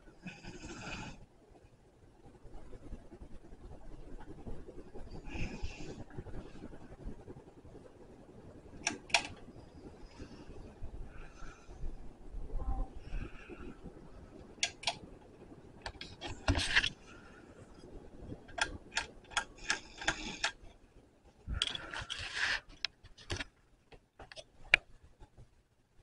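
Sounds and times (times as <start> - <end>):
ceiling fan running: 0.0 - 26.0.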